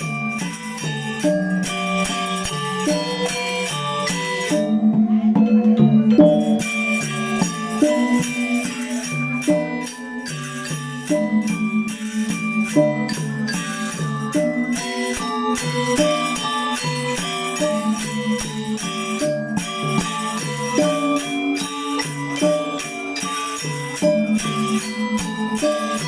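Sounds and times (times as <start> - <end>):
gamelan metallophones ringing: 0.0 - 26.0.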